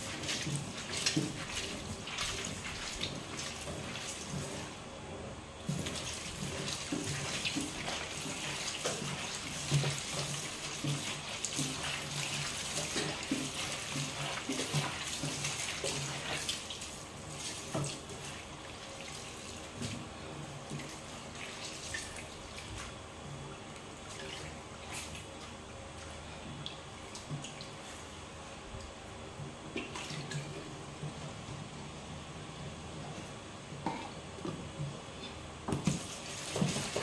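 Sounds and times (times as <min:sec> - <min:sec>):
water sloshing and splashing: 0:00.0 - 0:04.9, 0:05.6 - 0:31.2, 0:33.8 - 0:37.0.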